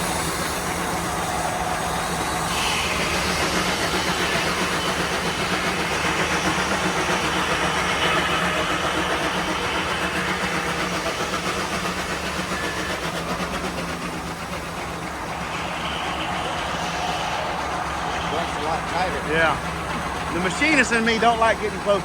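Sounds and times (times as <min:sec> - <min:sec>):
engine running with quick pulse: 0:00.0 - 0:22.0.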